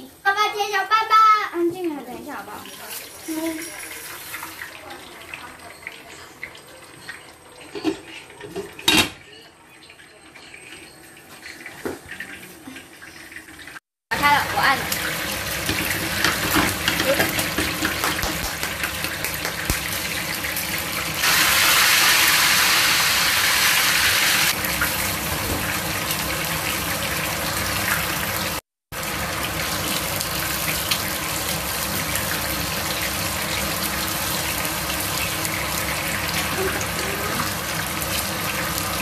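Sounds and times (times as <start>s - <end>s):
fish sizzling in hot oil: 0.1s - 8.4s, 9.2s - 39.0s.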